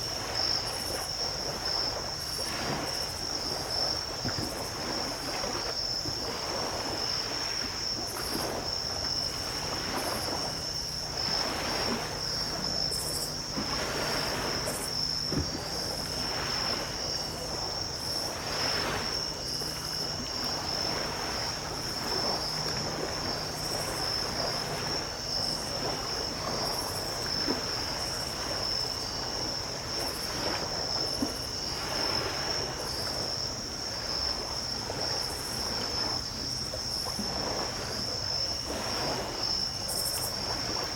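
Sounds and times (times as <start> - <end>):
crickets trilling: 0.0 - 40.9
small waves washing up beach: 0.0 - 40.9.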